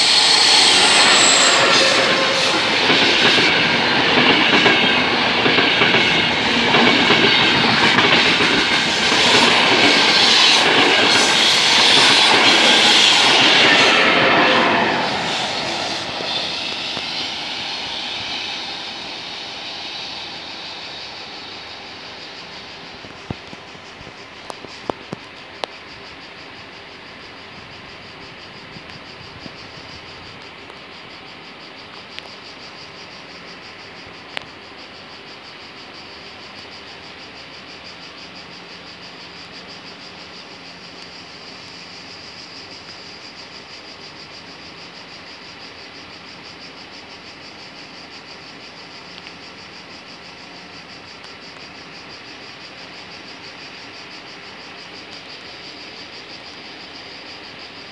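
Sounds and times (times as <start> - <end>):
insects chorus droning: 0.0 - 57.9.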